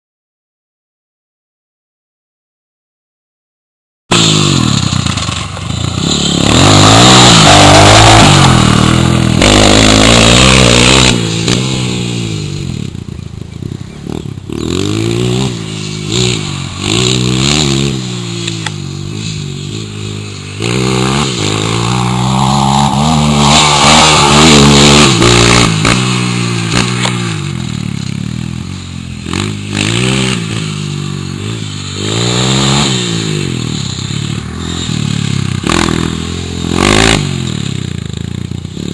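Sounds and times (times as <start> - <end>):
dirt bike engine revving: 4.1 - 38.9.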